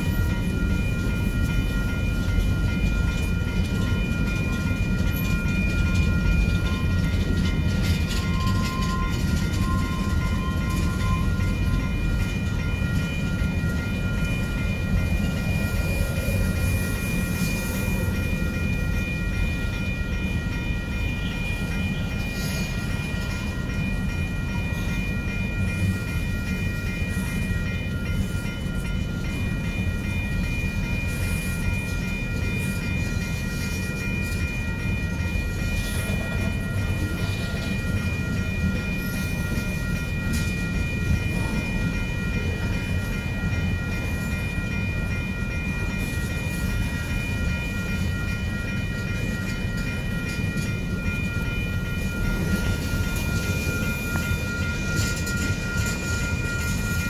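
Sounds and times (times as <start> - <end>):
high-pitched ringing tone: 0.0 - 57.0
rail clacks: 0.0 - 57.0
rumble of freight train wheels: 0.0 - 57.0.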